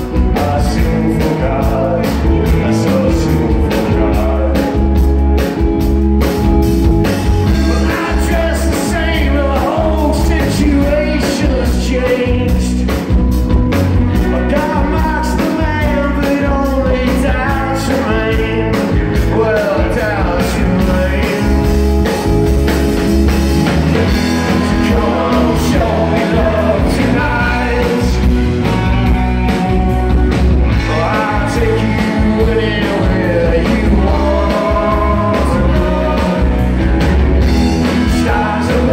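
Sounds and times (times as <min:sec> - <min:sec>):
man singing: 0:00.0 - 0:05.4, 0:07.4 - 0:13.1, 0:14.1 - 0:22.1, 0:24.1 - 0:28.8, 0:30.7 - 0:38.9
bass guitar: 0:00.0 - 0:38.9
drum kit beat: 0:00.0 - 0:38.9
electric guitars: 0:00.0 - 0:38.9.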